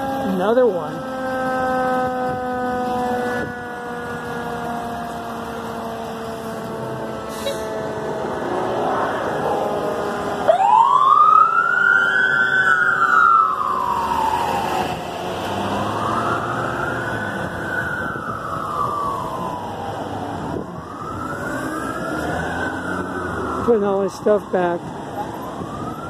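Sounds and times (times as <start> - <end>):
passing traffic hum: 0.0 - 26.0
siren wailing: 0.0 - 26.0.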